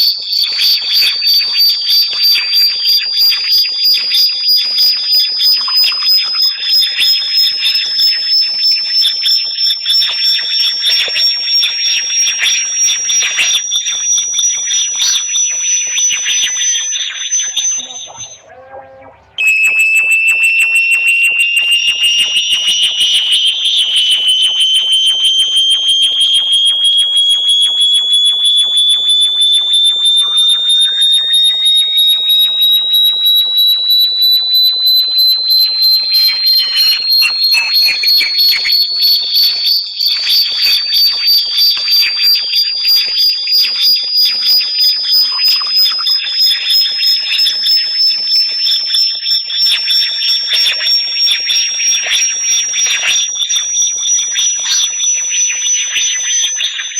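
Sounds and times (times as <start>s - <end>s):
high-pitched pulsing electronic tone: 0.0s - 56.9s.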